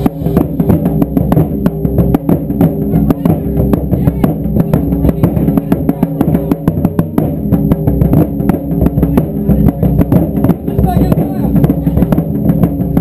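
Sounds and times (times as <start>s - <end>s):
taiko drum ensemble: 0.0s - 13.0s.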